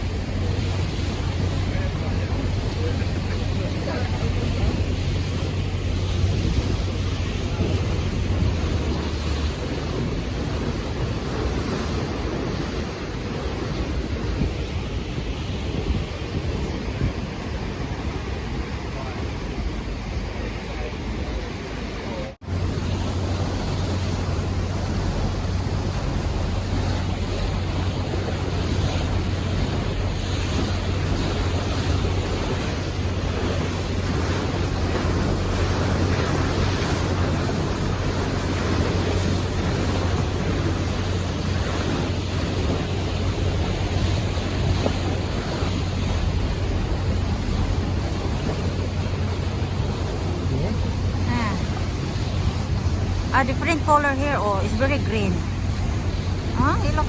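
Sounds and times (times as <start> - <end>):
boat engine droning: 0.0 - 57.0
rushing water: 0.0 - 57.0
wind on microphone: 0.0 - 57.0.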